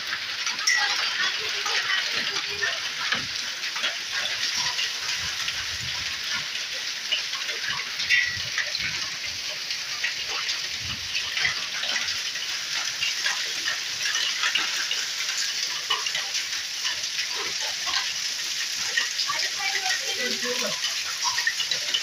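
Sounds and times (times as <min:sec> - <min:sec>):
hailstones ticking: 0:00.0 - 0:22.0
heavy rain hissing: 0:00.0 - 0:22.0.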